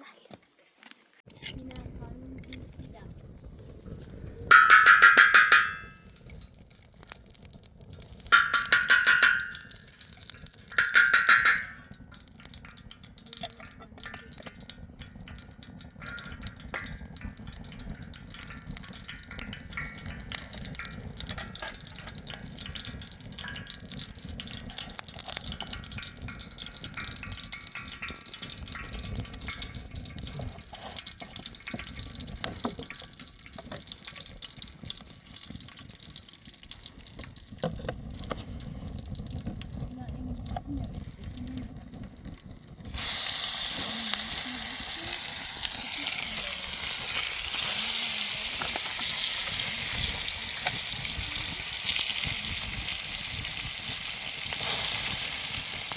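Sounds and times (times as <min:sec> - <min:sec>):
water splashing and dripping: 0:04.5 - 0:55.9.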